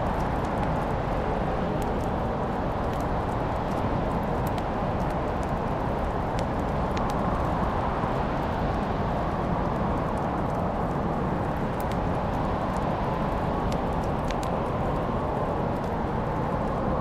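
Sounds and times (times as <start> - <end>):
fire crackles and pops: 0.0 - 17.0
wood fire burning: 0.0 - 17.0.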